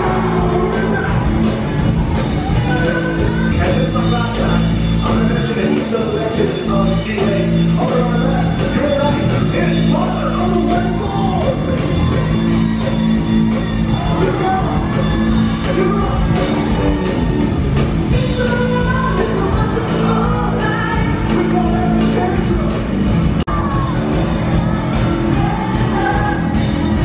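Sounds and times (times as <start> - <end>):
loud rock music with singing: 0.0 - 27.0.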